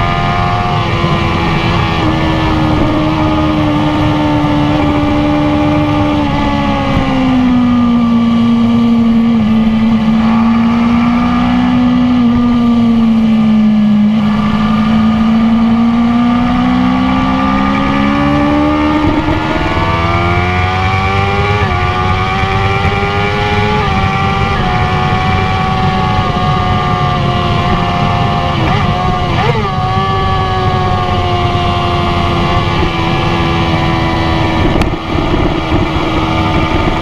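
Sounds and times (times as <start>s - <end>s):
motorcycle engine revving: 0.0s - 37.0s
wind rushing: 0.0s - 37.0s.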